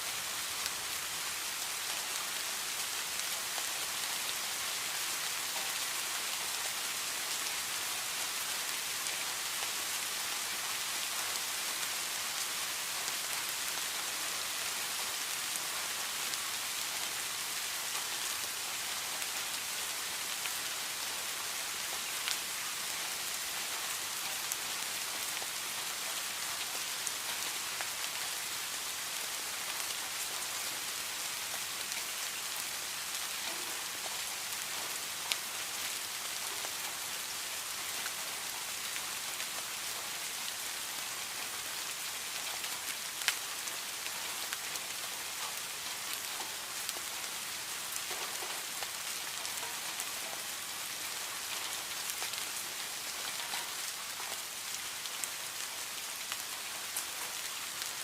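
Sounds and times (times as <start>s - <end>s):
rain falling steadily: 0.0s - 58.0s.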